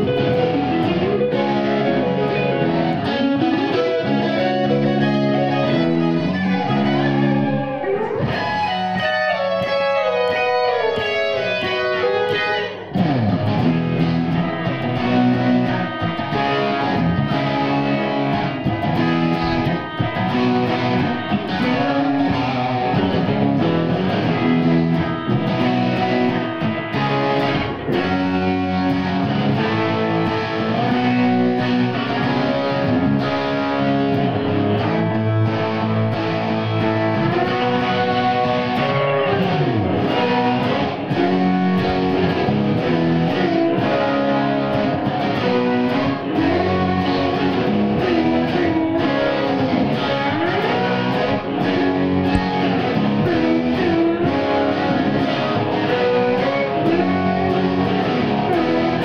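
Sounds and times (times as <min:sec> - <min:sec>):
electric guitar music: 0:00.0 - 0:59.0.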